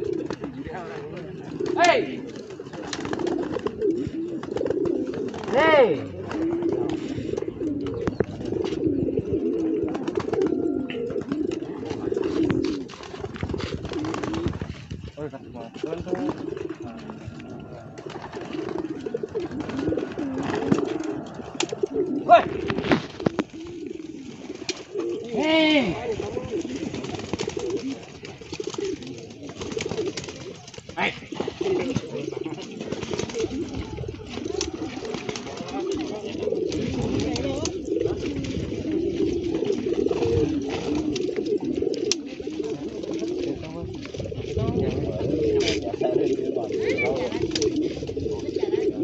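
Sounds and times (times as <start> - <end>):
pigeons cooing: 0.0 - 49.0.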